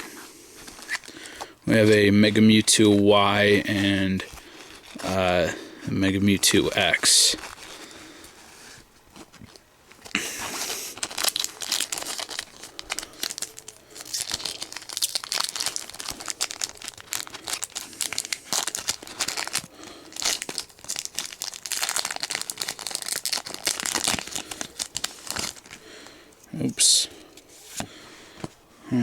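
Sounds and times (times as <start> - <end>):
foil pack crinkling and tearing: 0.6 - 26.2.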